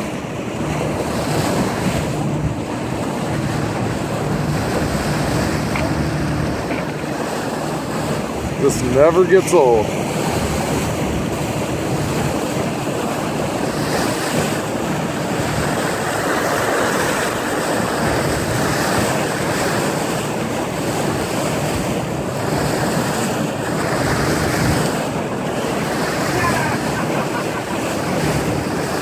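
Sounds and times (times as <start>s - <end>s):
wind buffeting microphone: 0.0s - 9.1s, 9.8s - 29.0s
water rushing along boat hull: 0.0s - 29.0s.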